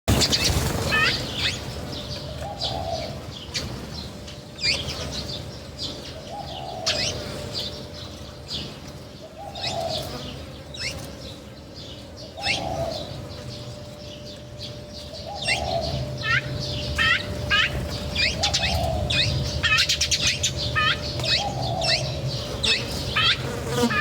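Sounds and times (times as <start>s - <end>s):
birds chirping: 0.1s - 24.0s
steady low hum: 0.1s - 24.0s
dove cooing: 0.2s - 5.3s, 6.0s - 11.1s, 12.0s - 14.2s, 14.8s - 24.0s.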